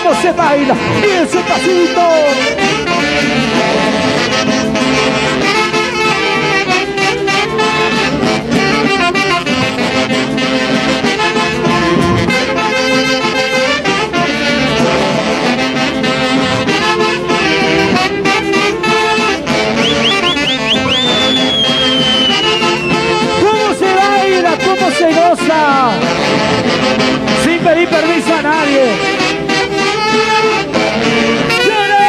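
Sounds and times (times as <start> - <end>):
saxophones and brass dance music: 0.0 - 32.0.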